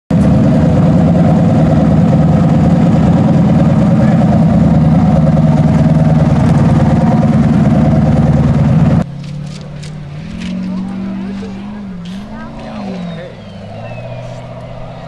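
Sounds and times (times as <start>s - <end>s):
buggy engine running steady: 0.1s - 15.0s.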